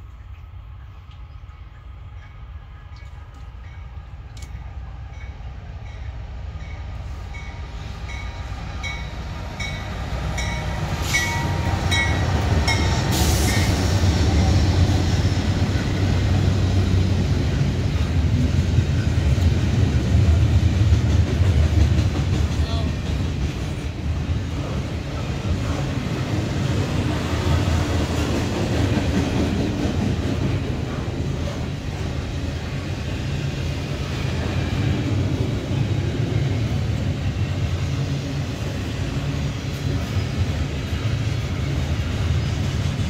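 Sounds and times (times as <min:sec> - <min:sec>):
diesel locomotives passing: 0:00.0 - 0:43.0.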